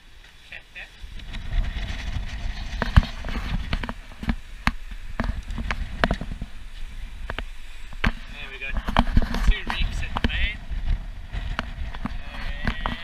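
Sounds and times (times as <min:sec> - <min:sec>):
wind rumble on microphone: 0:00.9 - 0:13.0
boat knocks and creaks: 0:01.1 - 0:13.0.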